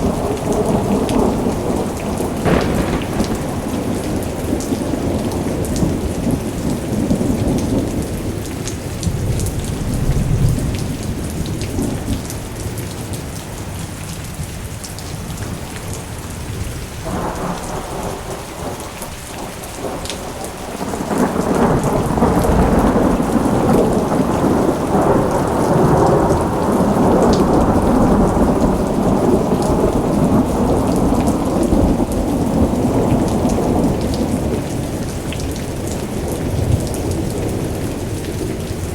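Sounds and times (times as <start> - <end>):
rolling thunder: 0.0 - 12.8, 16.4 - 38.9
steady rain: 0.0 - 38.9.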